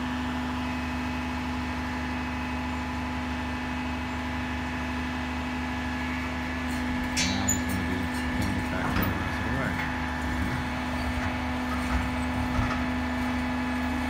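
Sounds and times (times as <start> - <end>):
diesel engine running: 0.0 - 14.0
hydraulic hoist whine: 0.0 - 14.0.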